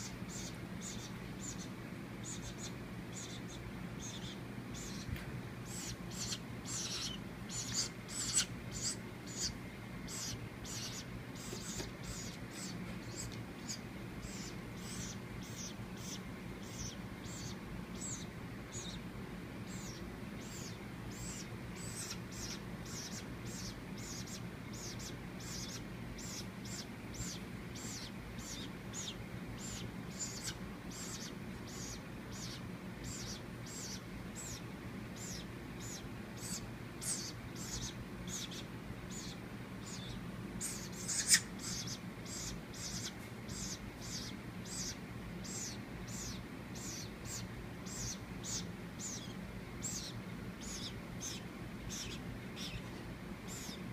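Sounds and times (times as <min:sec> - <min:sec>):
baby woodpecker calling: 0:00.0 - 0:19.0, 0:19.6 - 0:53.9.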